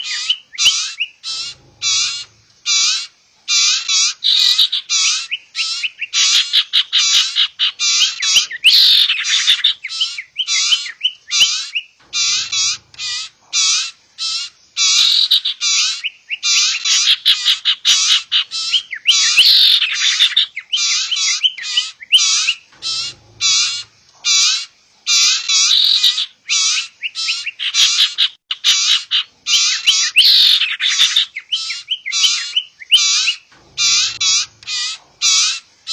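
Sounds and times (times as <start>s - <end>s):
birds chattering squawks: 0.0s - 35.9s.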